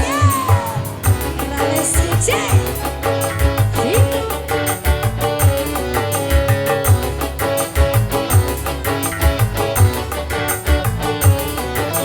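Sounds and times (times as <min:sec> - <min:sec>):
melodic instruments: 0:00.0 - 0:12.0
steady drum beat: 0:00.0 - 0:12.0.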